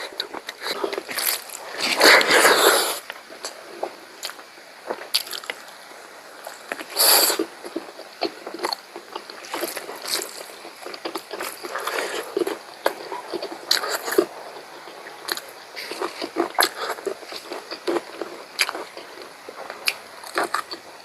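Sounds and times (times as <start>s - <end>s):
wet chewing and smacking: 3.4s - 5.8s, 6.4s - 21.0s.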